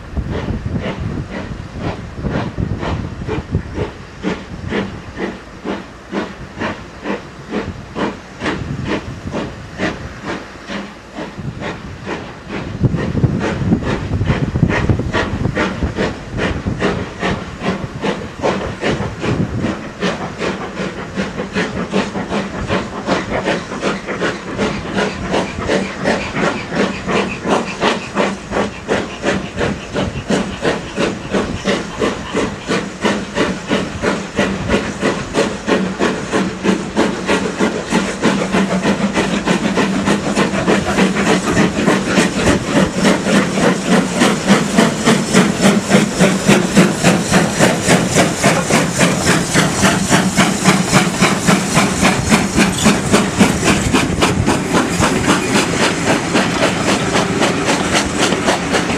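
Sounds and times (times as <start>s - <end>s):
steam hissing: 0.0s - 58.9s
steam locomotive exhaust beating: 0.0s - 58.9s.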